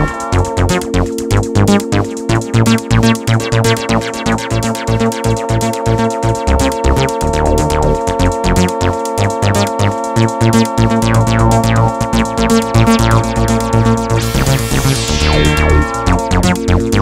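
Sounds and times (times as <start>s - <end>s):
electronic music with drum machine: 0.0s - 17.0s.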